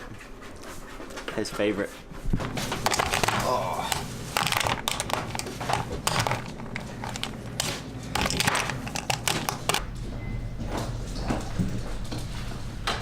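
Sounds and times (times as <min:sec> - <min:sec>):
steady low hum: 0:02.1 - 0:13.0
crinkling and crackling: 0:02.4 - 0:13.0.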